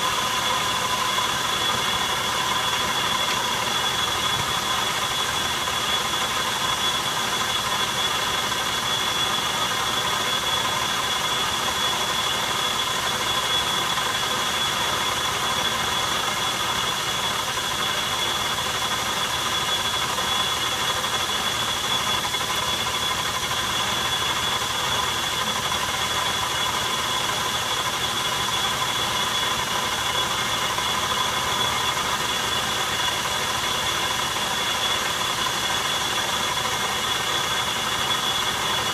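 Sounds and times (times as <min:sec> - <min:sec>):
metal lathe high whine: 0:00.0 - 0:38.9.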